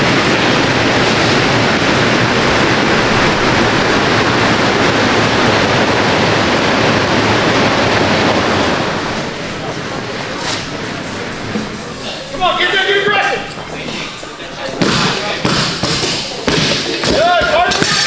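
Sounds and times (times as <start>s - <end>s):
loud steady rushing noise: 0.0s - 18.0s.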